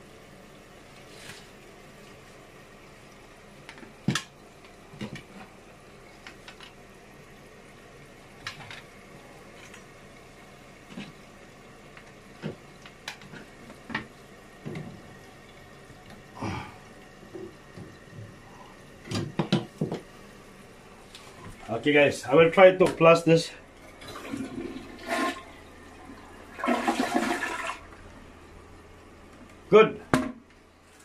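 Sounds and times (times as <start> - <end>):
faint running water: 0.0 - 31.0.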